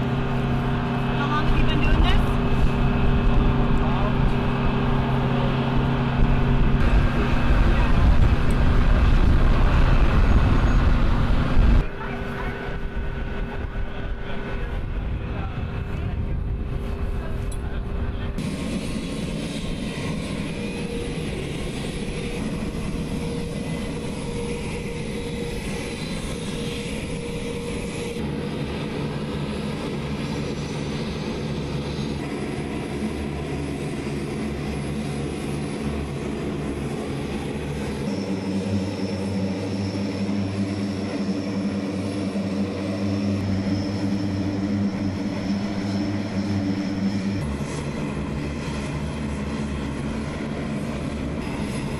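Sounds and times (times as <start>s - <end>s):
turboprop engines running: 0.0s - 51.9s.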